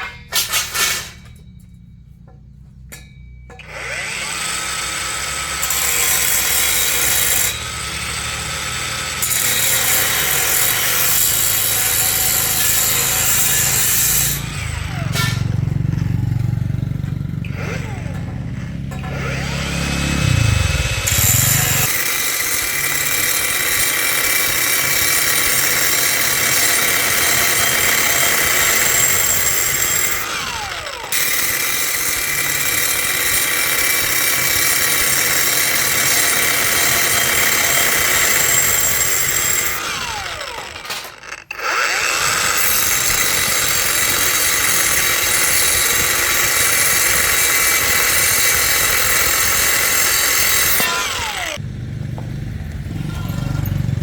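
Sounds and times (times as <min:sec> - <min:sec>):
angle grinder grinding metal: 0:00.0 - 0:51.6, 0:52.9 - 0:54.0.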